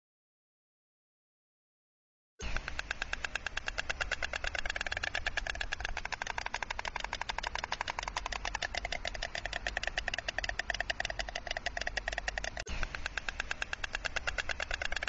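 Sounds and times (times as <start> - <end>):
stork clattering its bill: 2.4 - 15.0.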